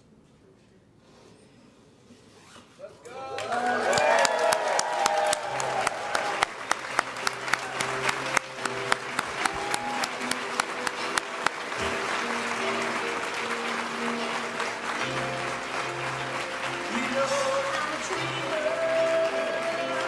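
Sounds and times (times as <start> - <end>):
audience applauding: 3.2 - 20.0.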